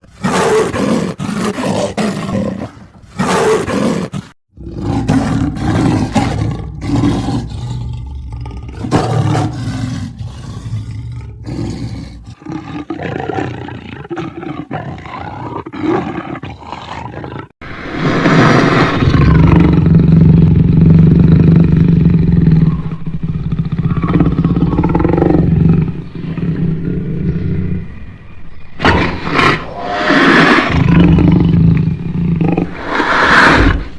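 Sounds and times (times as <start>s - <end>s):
big cat growling: 0.2s - 17.5s, 18.3s - 28.1s, 28.8s - 33.9s
big cat roaring: 0.2s - 17.5s, 18.3s - 28.0s, 28.8s - 33.9s.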